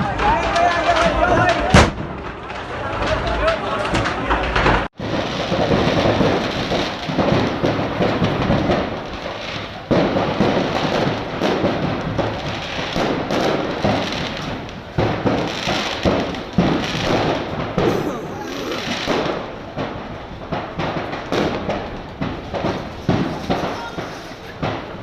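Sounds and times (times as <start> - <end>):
firecrackers crackling and popping: 0.0 - 25.0.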